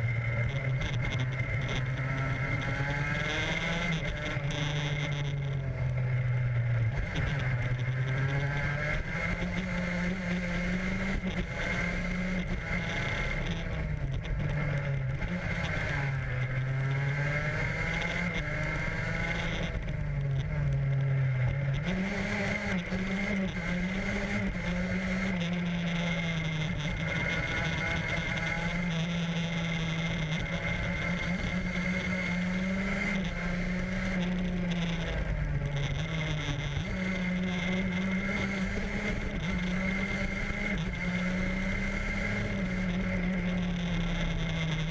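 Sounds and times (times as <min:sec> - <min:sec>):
racing car engine: 0:00.0 - 0:44.9.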